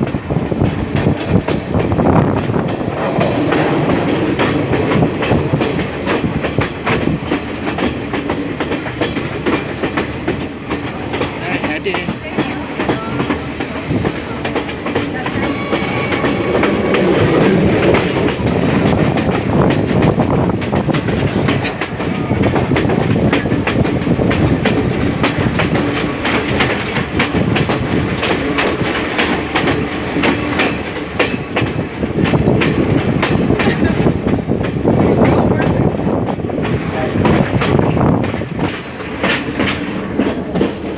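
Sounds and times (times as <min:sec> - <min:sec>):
train rumble: 0:00.0 - 0:40.9
train wheels clicking on rails: 0:00.0 - 0:40.9.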